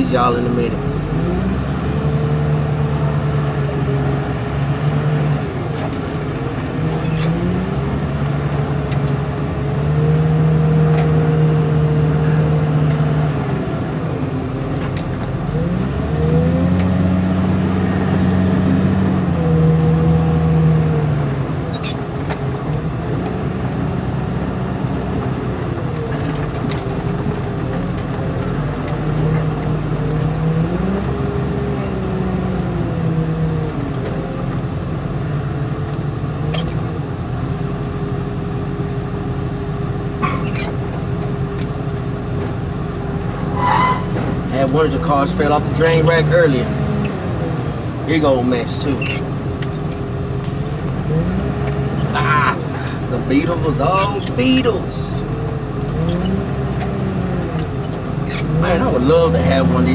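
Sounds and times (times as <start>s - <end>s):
vehicle engine revving: 0.0s - 38.0s, 38.9s - 59.9s.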